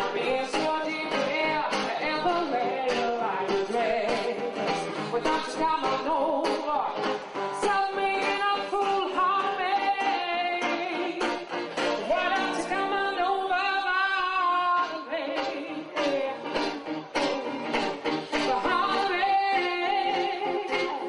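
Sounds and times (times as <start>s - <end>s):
strummed acoustic guitar: 0.0s - 21.0s
woman singing into a microphone: 0.0s - 21.0s.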